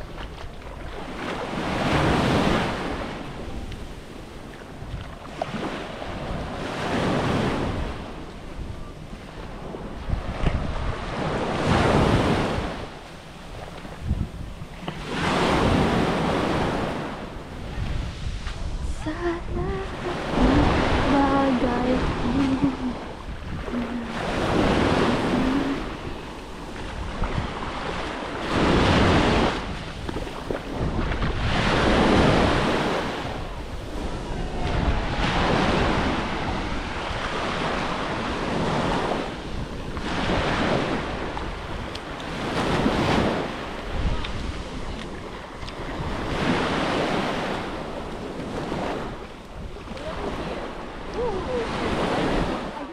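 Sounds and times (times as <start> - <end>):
small waves breaking on beach: 0.0 - 52.9
wind buffeting microphone: 0.0 - 52.9.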